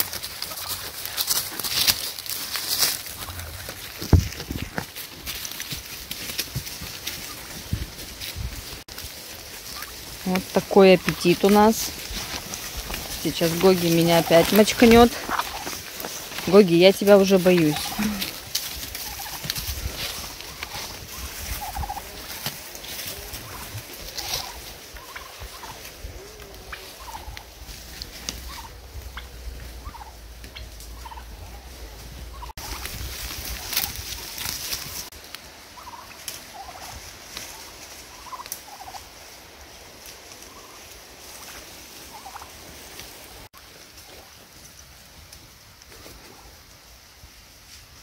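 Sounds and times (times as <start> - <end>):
turkeys calling: 0.0 - 45.1.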